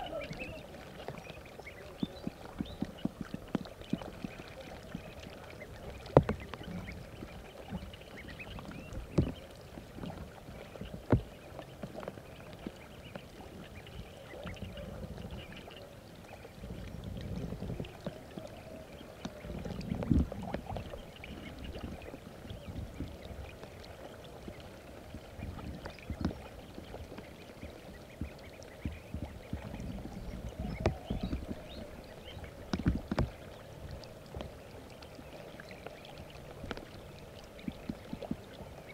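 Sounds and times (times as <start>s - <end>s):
water sloshing and splashing: 0.0s - 38.9s.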